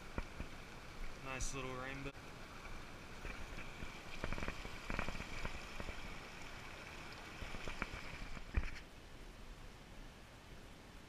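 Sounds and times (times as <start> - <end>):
small water splashes: 0.0 - 8.9
stream running and burbling: 0.0 - 11.0.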